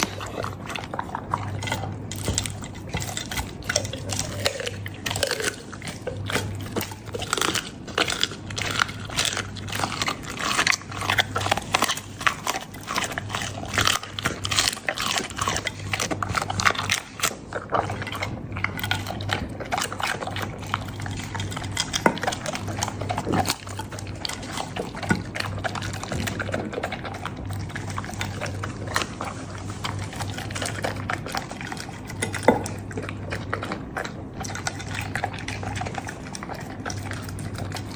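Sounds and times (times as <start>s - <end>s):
dog crunching bones: 0.0s - 37.9s.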